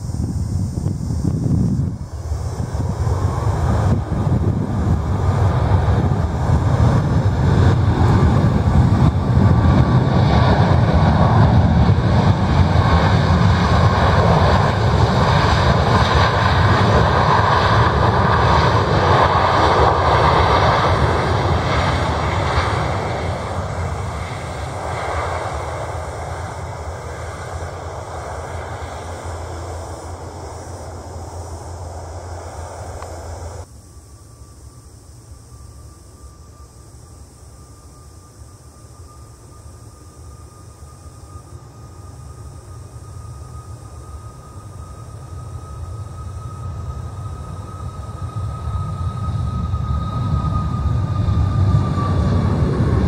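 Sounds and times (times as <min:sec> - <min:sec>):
jet engines roaring: 0:00.0 - 0:33.7, 0:38.4 - 0:53.0.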